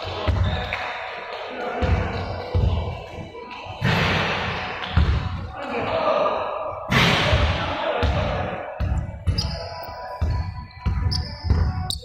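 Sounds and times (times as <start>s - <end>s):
noisy background: 0.0s - 12.0s.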